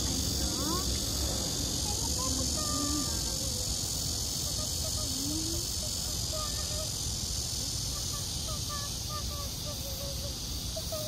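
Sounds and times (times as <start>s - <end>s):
cicadas singing: 0.0s - 11.0s
faint voices: 0.0s - 11.0s.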